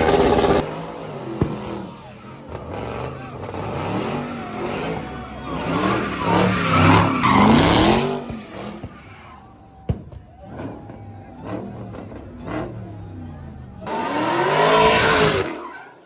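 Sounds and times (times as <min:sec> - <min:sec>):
car engine revving: 0:00.0 - 0:08.9, 0:10.5 - 0:15.7
tyres squealing on pavement: 0:01.4 - 0:12.7, 0:13.8 - 0:16.0.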